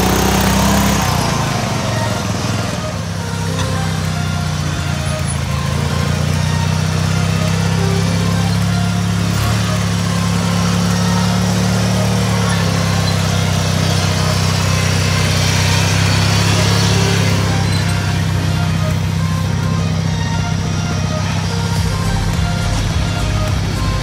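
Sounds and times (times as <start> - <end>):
small lawn mower engines running: 0.0 - 24.0.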